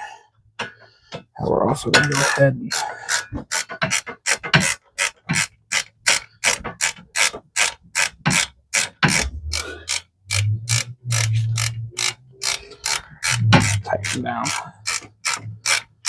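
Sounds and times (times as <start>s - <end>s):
ratchet wrench clicking: 2.0s - 16.0s.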